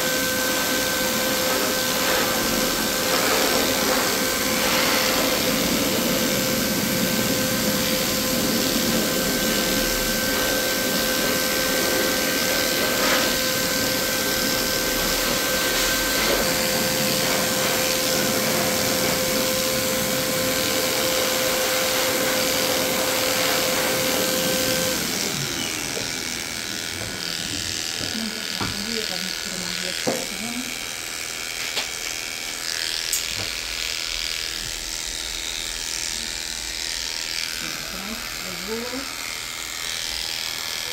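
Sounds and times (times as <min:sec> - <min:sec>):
electric dog clipper buzzing: 0:00.0 - 0:40.9.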